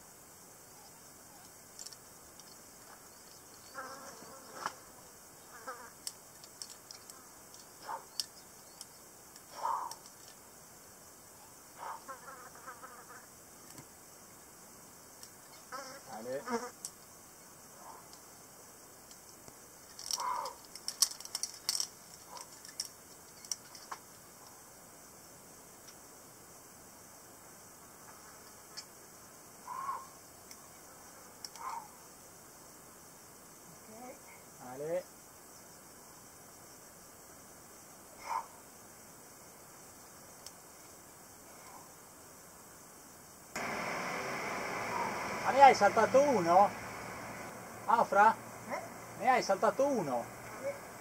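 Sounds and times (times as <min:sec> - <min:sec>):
faint hiss: 0:00.0 - 0:51.0
insect buzzing past: 0:00.0 - 0:51.0.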